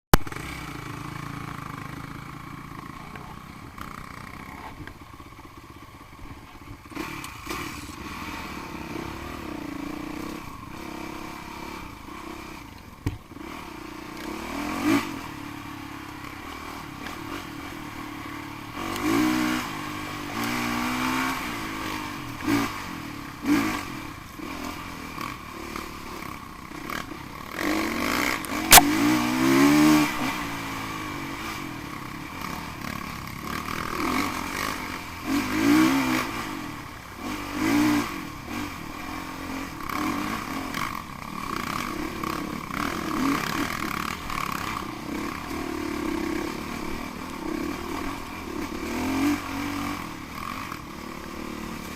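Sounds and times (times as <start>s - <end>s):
motorcycle engines revving: 0.1s - 51.9s.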